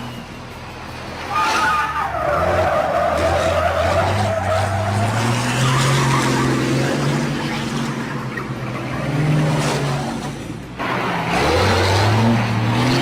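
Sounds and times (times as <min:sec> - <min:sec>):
truck engine humming: 0:00.0 - 0:13.0
truck wheels squealing: 0:01.1 - 0:12.2.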